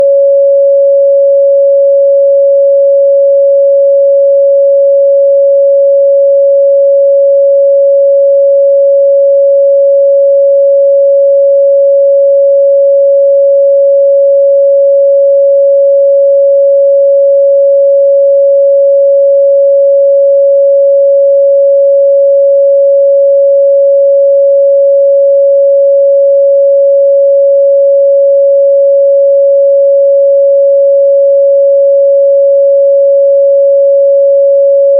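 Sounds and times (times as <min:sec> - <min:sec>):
sine-wave test tone: 0:00.0 - 0:34.9.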